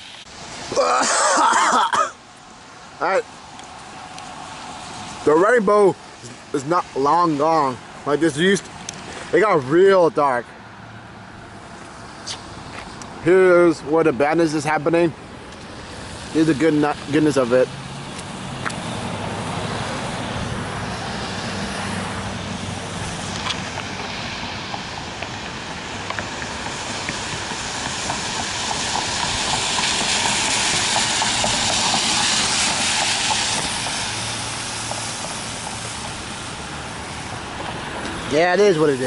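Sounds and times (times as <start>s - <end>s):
tyres hissing on wet road: 0.0s - 39.0s.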